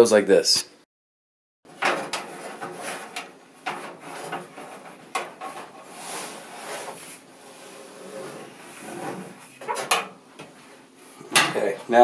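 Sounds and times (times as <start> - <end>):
metal dryer drum rubbing and scraping: 1.7 - 11.8.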